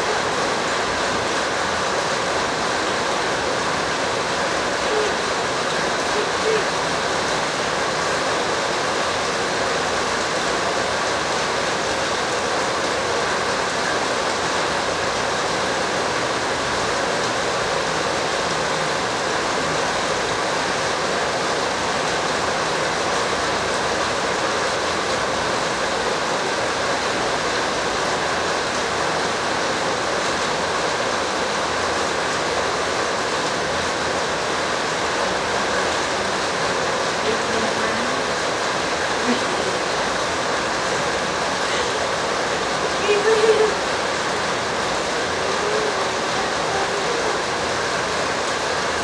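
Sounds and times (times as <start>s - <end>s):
steady rushing hiss: 0.0s - 49.0s.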